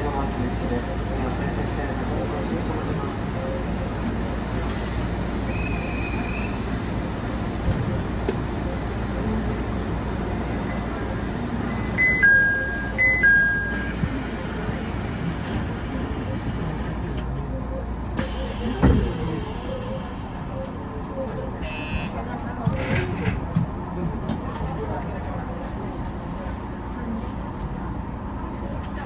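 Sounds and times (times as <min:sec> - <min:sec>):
train running rumble: 0:00.0 - 0:29.0.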